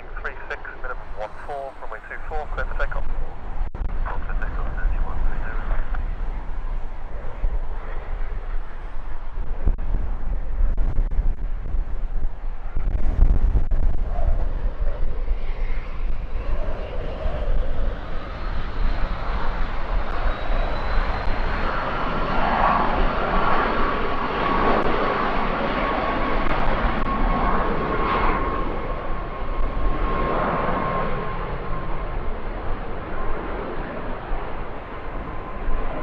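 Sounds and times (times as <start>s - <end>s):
jet engine turbine whine: 0.0s - 36.0s
wind rumble on microphone: 0.0s - 36.0s.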